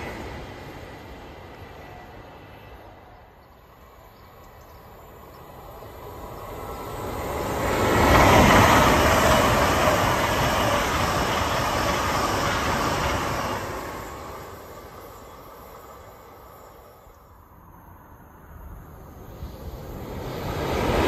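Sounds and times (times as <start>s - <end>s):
train passing close by: 0.0s - 21.0s.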